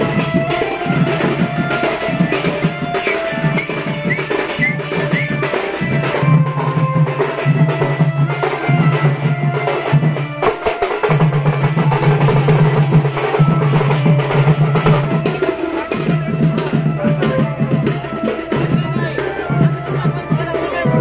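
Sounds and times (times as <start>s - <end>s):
drum-heavy music with deep bass: 0.0s - 21.0s.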